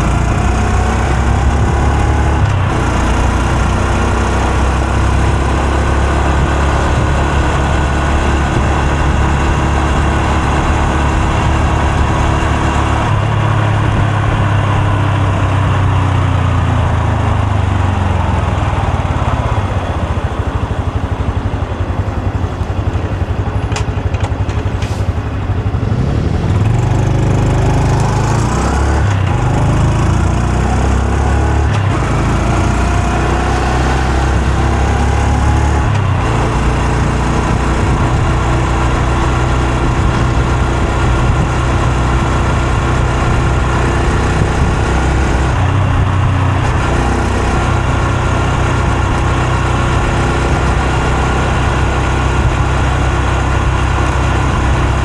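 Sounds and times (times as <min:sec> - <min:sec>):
motorcycle engine and exhaust: 0:00.0 - 0:55.0.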